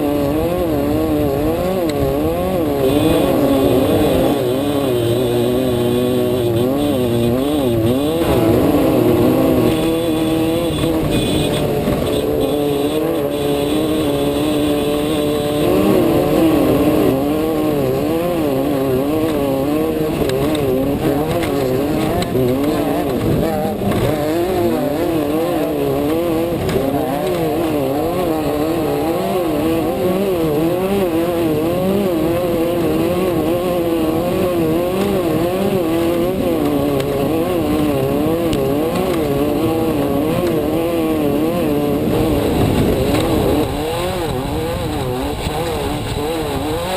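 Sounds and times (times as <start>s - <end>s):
constant rough noise: 0.0s - 46.9s
race car engine revving: 0.0s - 46.9s.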